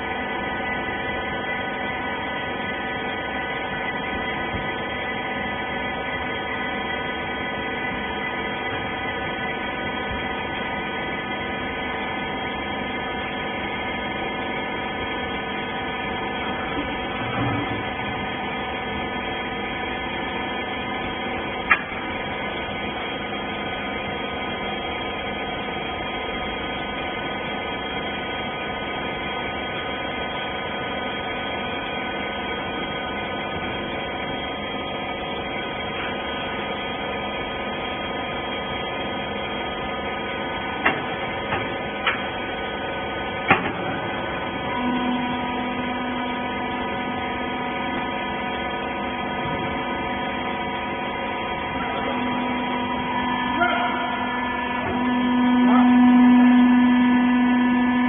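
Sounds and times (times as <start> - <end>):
baler motor and pump humming: 0.0 - 58.0.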